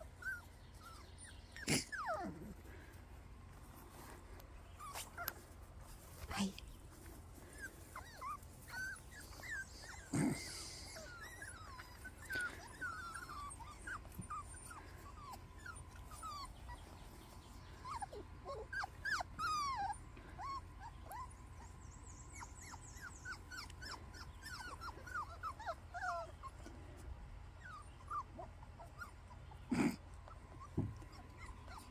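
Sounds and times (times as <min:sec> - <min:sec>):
puppies whimpering and yipping: 0:00.0 - 0:06.3, 0:06.9 - 0:31.9.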